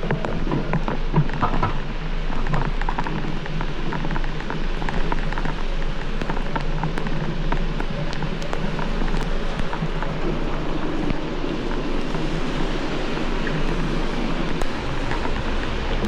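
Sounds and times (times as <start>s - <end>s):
raindrops hitting close: 0.0s - 16.0s
steady rain hiss: 0.0s - 16.0s.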